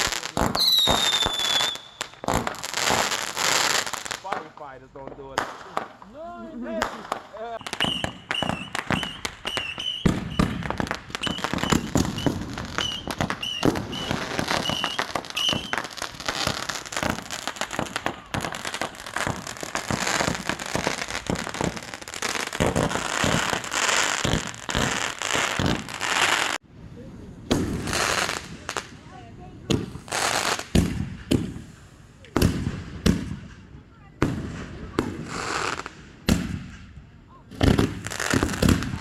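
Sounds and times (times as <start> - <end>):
fireworks bangs and crackling: 0.0 - 26.6, 27.4 - 39.0.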